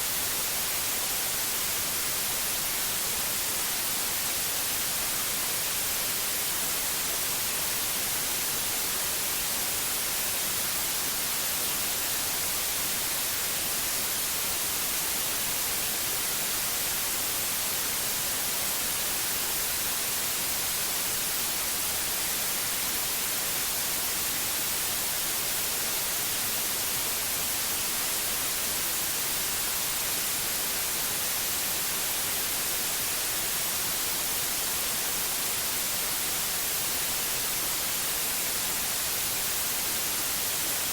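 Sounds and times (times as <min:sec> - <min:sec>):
steady white noise hiss: 0:00.0 - 0:40.9.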